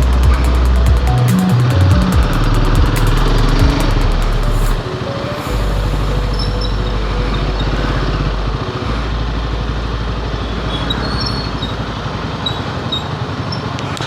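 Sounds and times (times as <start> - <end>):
motorcycle engine running: 0.0 - 13.3
road noise: 0.0 - 14.0.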